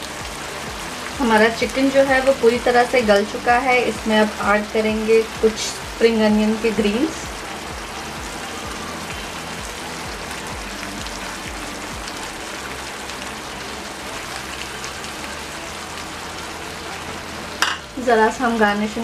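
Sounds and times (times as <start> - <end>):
sauce sizzling in a frying pan: 0.0 - 19.0.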